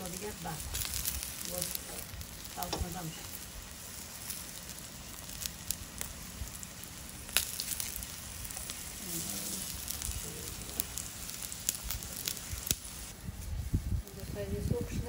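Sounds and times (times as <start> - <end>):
eggplant sizzling in hot oil: 0.0 - 15.0.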